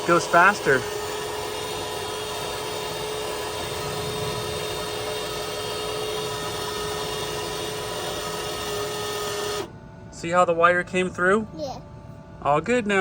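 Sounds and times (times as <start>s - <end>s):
welder wire-feed motor running: 0.0s - 11.4s.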